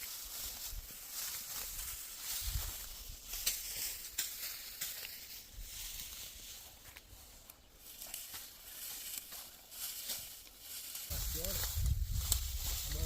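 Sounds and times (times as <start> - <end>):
dry stalks rustling and crunching: 0.0 - 13.0.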